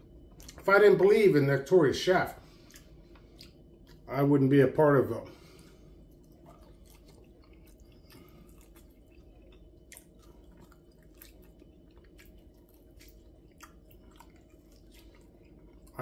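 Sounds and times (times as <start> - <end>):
faint chewing: 0.0 - 0.7, 2.4 - 4.2, 5.3 - 16.0
low hum: 0.0 - 16.0.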